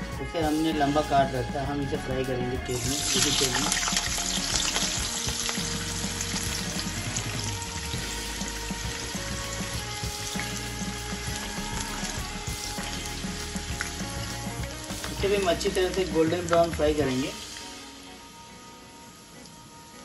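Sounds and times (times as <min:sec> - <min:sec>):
oil sizzling and crackling: 0:02.7 - 0:19.6.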